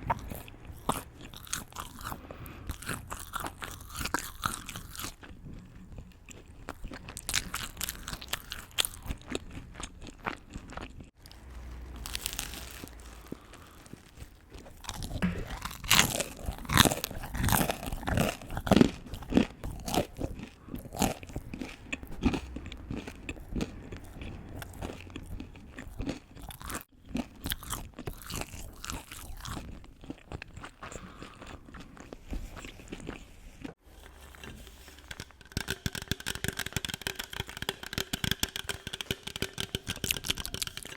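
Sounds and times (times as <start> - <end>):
crunchy bites and chewing: 0.0 - 40.9.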